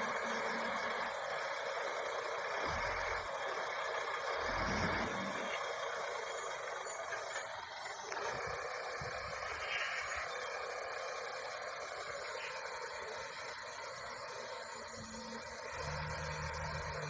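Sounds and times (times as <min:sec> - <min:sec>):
bulldozer working: 0:00.0 - 0:17.0.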